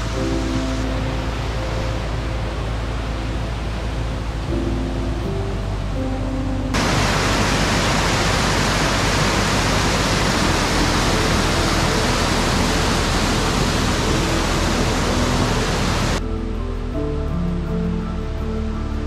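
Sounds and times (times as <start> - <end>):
stream rushing over rocks: 0.0 - 5.9, 6.7 - 16.2.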